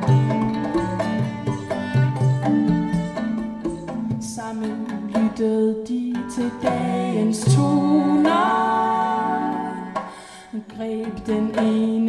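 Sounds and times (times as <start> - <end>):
cello: 0.0 - 12.0
hand drums: 0.0 - 12.0.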